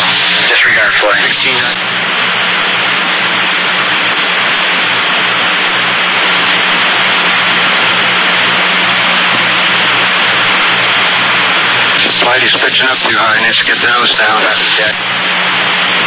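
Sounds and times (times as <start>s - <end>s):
low electrical hum: 0.0s - 16.0s
radio static hiss: 0.0s - 16.0s.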